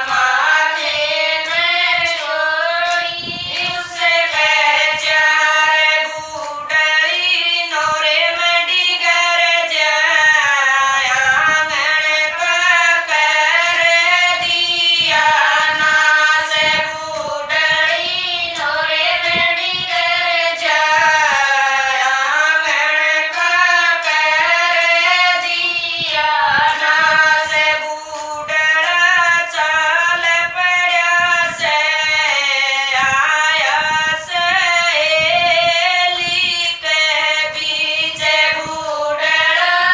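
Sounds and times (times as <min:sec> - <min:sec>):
women singing together: 0:00.0 - 0:39.9.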